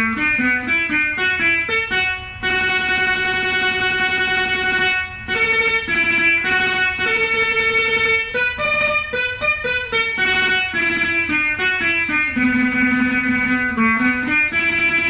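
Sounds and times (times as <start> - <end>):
zither tremolo melody: 0.0 - 15.0.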